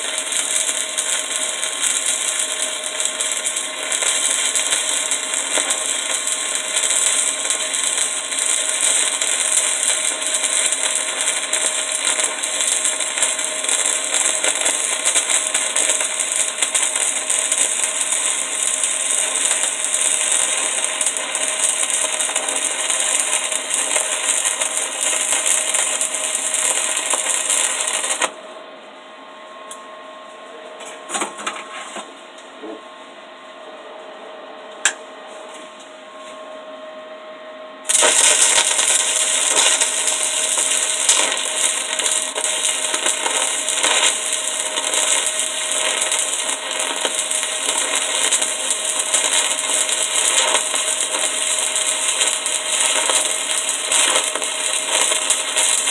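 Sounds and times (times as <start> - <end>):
welding arc crackling: 0.0 - 28.4, 37.9 - 55.9.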